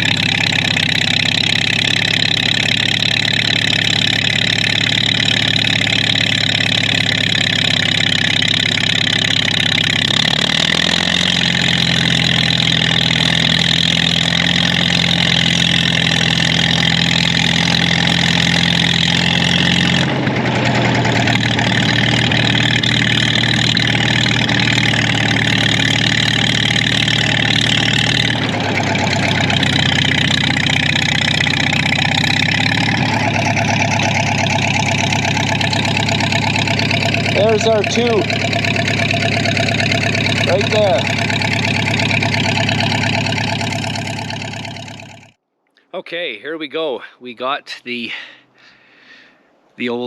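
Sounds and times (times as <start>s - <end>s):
snowmobile engine running: 0.0s - 45.3s.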